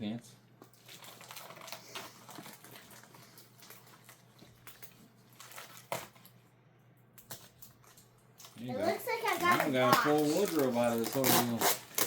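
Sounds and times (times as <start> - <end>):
packaging and clothes rustling: 0.7 - 6.4, 7.4 - 12.0.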